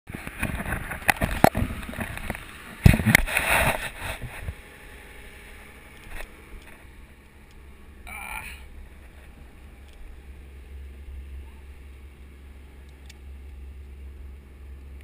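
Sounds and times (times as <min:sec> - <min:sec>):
boat engine rumble: 0:00.1 - 0:15.0.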